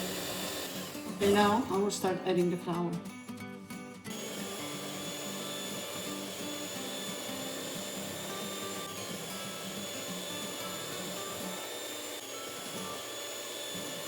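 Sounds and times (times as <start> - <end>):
electric mixer whining: 0.0 - 1.7, 4.1 - 14.0
background music: 0.0 - 14.0.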